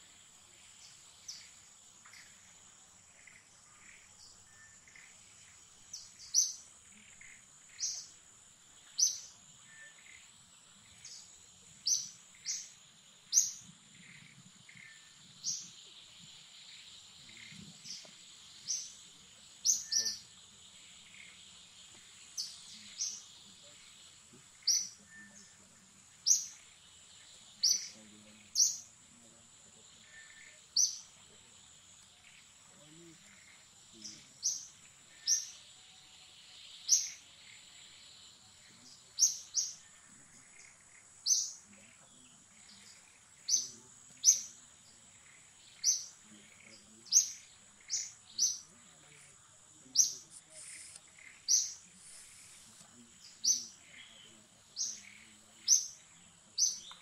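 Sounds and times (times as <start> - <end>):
bird chirping: 0.0 - 57.0.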